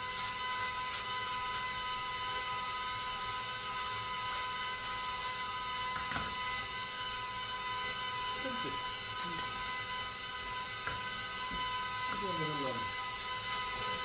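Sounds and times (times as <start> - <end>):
high whining hum: 0.0 - 14.0.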